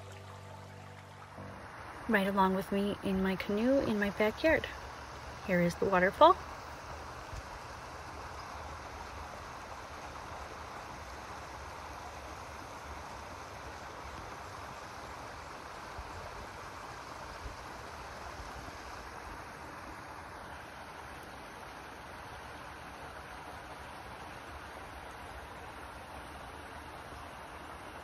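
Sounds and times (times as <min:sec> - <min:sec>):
small waterfall splashing: 0:00.0 - 0:28.0.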